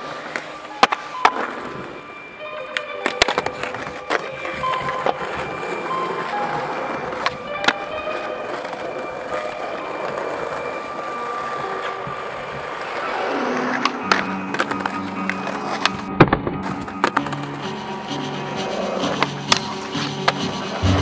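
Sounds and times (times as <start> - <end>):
music: 0.0 - 21.0
skateboard clacks: 0.0 - 21.0
skateboard wheels rolling on concrete: 0.0 - 21.0.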